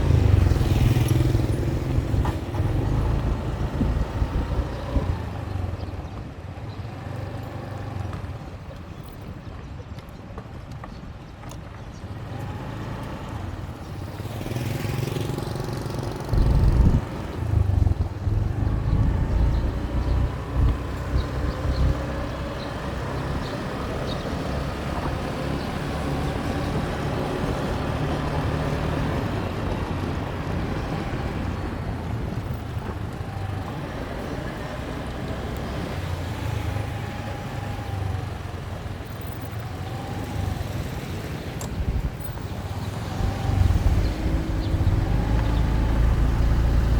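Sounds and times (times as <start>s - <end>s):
motorbike engine revving: 0.0s - 5.9s, 12.2s - 46.9s
wind buffeting microphone: 0.0s - 7.1s, 13.4s - 46.9s.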